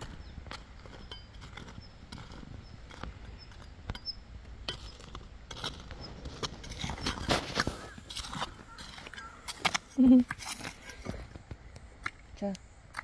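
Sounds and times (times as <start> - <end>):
footsteps on ploughed soil: 0.0 - 12.2.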